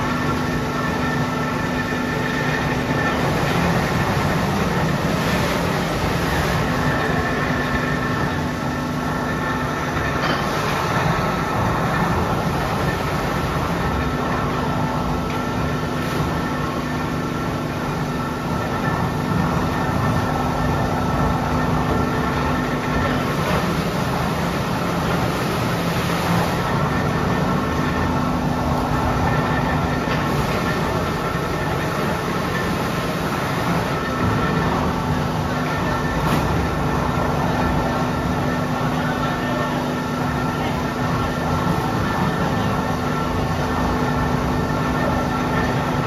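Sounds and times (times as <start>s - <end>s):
heavy machinery rumble: 0.0s - 46.0s.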